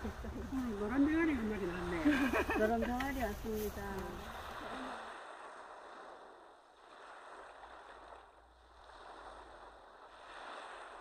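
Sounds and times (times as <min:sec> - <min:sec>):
soft rushing outdoor ambience: 0:00.0 - 0:10.4.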